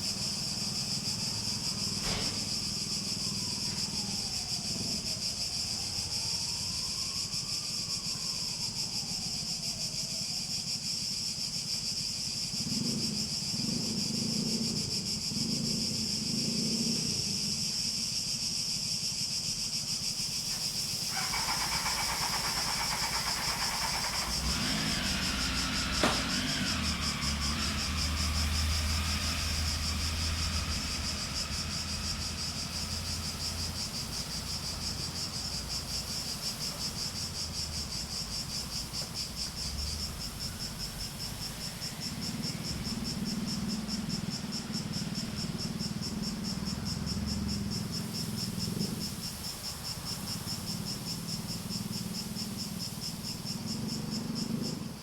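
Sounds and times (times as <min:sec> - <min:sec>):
cicadas buzzing chorus: 0:00.0 - 0:55.0.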